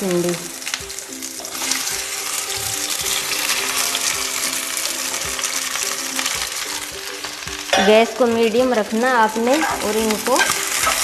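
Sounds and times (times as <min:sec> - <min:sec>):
okra sizzling in hot oil: 0:00.0 - 0:11.0
soft background music: 0:00.0 - 0:11.0.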